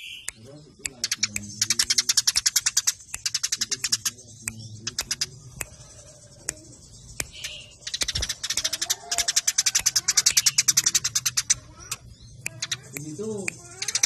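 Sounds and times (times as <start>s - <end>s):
sparrows chattering: 0.0s - 14.0s.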